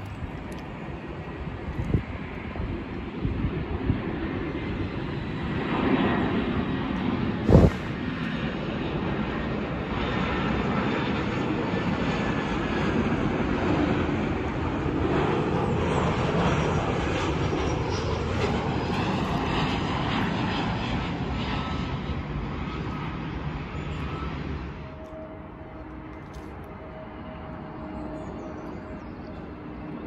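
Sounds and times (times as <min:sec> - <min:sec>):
airliner jet engines: 0:00.0 - 0:30.0.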